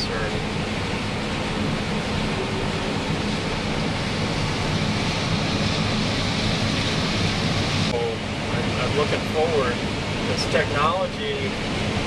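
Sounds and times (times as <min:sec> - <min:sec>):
combine harvester running: 0:00.0 - 0:12.0
steady low hum: 0:00.0 - 0:12.0.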